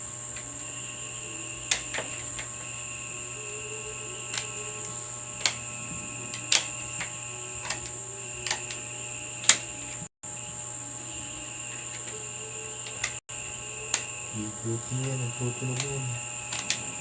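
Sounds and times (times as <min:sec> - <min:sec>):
faint electrical hum: 0:00.0 - 0:17.0
high whine: 0:00.0 - 0:17.0.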